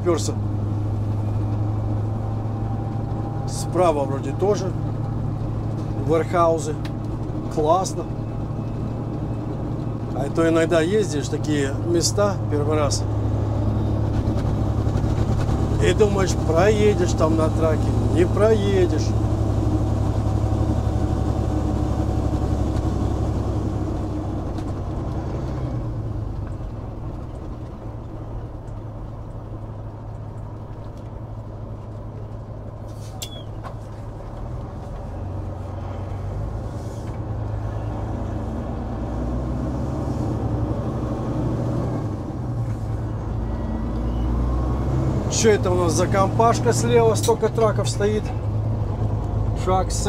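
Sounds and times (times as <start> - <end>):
truck diesel engine running: 0.0 - 50.0.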